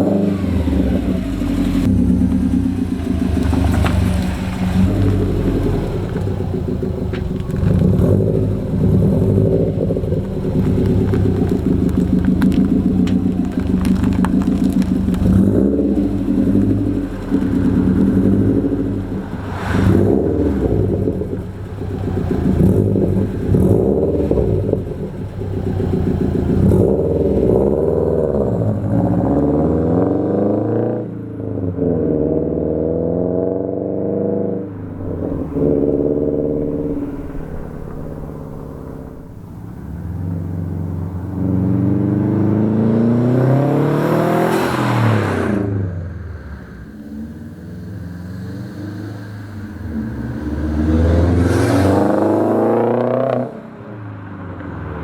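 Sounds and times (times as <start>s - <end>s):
car passing close by: 0.0s - 27.8s, 33.6s - 55.0s
car engine accelerating: 0.0s - 55.0s.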